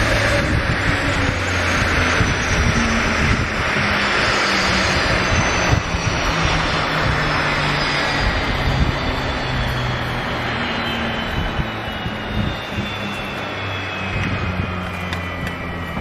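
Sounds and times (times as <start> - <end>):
high whine falling in pitch: 0.0 - 16.0
jet engines running: 0.0 - 16.0.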